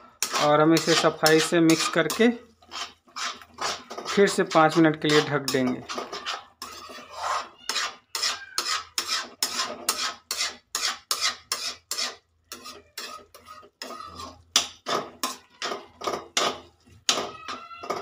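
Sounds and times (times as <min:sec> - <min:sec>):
metal spatula scraping pan: 0:00.0 - 0:18.0.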